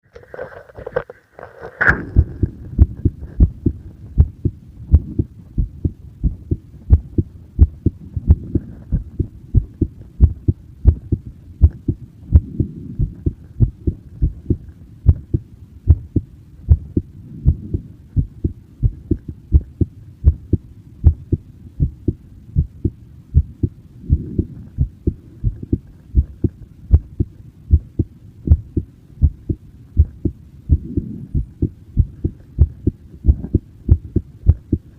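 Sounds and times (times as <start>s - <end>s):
low muffled rumble: 0.1s - 34.9s
heartbeat thumps: 1.9s - 34.9s.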